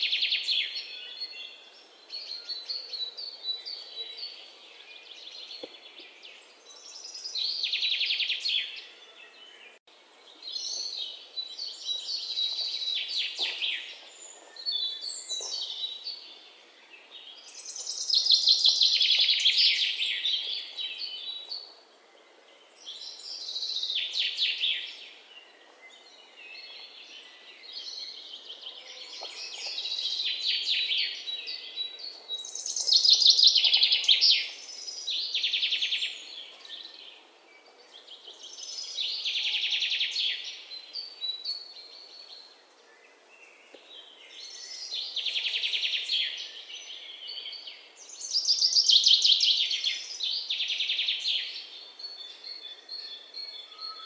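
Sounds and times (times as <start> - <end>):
faint outdoor background hiss: 0.0 - 54.0.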